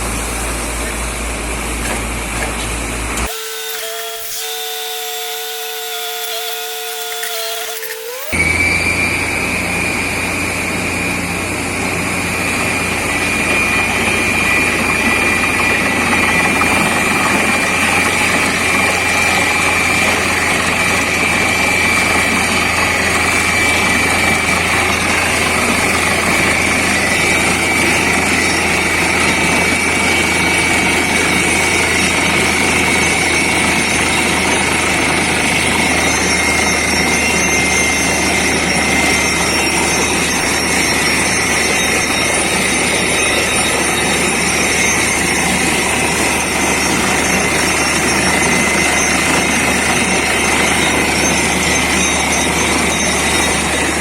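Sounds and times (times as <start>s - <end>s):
drilling rig and air compressor: 0.0s - 54.0s.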